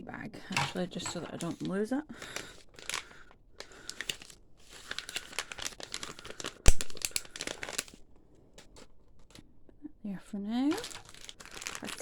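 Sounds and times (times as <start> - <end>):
plastic bag crinkling: 0.5 - 9.4, 10.6 - 12.0.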